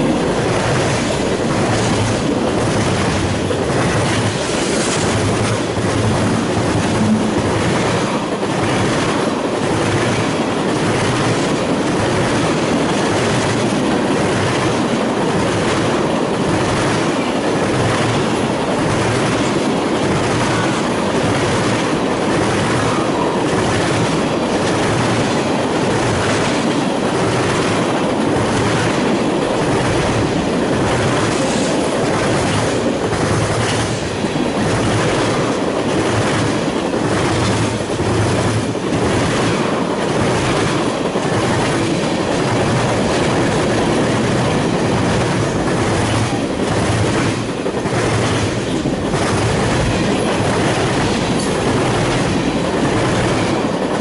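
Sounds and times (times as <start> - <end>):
clickety-clack over rail joints: 0.0 - 54.0
train wheels on rails: 0.0 - 54.0.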